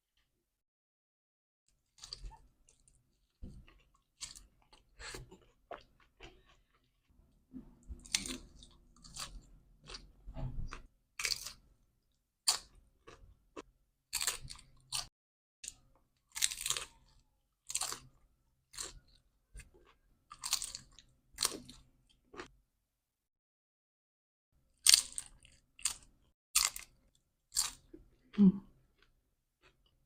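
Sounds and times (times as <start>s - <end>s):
chewing crunchy chips: 1.8s - 22.5s, 24.7s - 30.0s.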